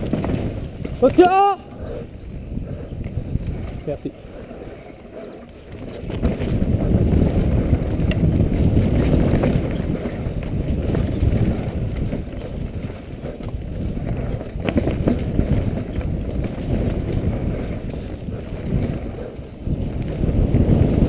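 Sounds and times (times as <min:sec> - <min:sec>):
bike rattling over bumps: 0:00.0 - 0:21.0
bike tyres on dirt: 0:00.0 - 0:21.0
wind rumble on microphone: 0:00.0 - 0:21.0.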